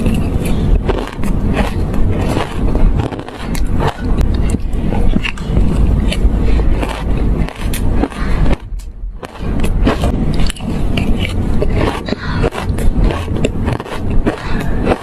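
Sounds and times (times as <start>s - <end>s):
shaved ice crunching: 0.0s - 4.2s, 5.2s - 15.0s.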